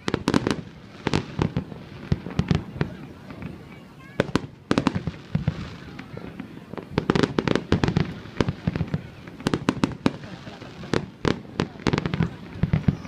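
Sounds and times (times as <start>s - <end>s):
fireworks booming: 0.0s - 13.0s
fireworks cracking: 0.0s - 13.0s.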